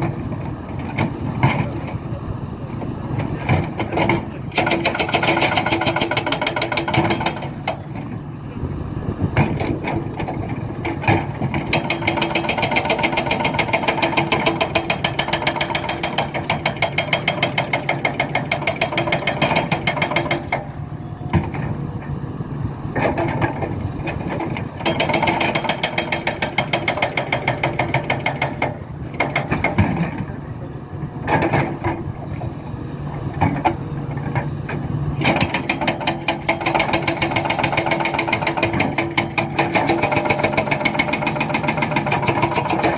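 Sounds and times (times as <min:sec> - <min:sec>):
diesel engine running: 0:00.0 - 0:42.9
hydraulic breaker hammering: 0:03.1 - 0:08.1, 0:09.3 - 0:21.8, 0:23.0 - 0:30.4, 0:31.2 - 0:32.5, 0:33.1 - 0:42.9.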